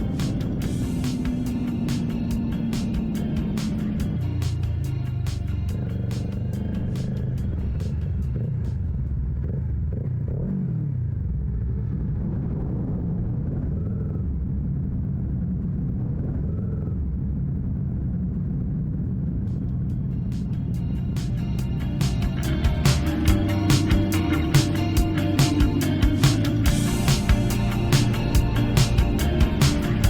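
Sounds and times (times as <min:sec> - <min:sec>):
motorcycle engine running: 0:00.0 - 0:14.8, 0:19.2 - 0:30.0.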